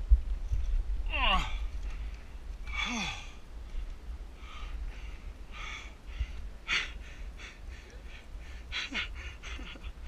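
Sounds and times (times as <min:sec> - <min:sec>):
person breathing heavily: 0:01.4 - 0:09.9.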